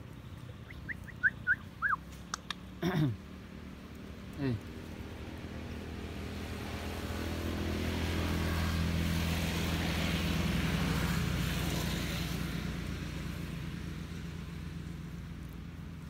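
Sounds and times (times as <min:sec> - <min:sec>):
road noise: 0:00.0 - 0:16.0
vehicle engine passing: 0:00.0 - 0:16.0.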